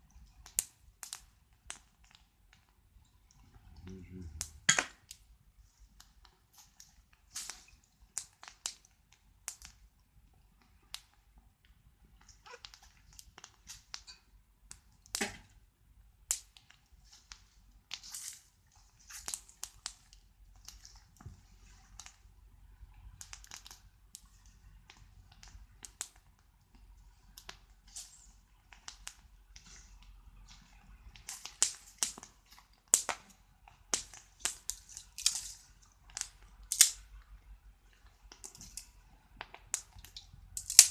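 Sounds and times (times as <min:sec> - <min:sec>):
sharp pops and snaps: 0:00.0 - 0:40.9
wood fire crackling: 0:00.0 - 0:40.9.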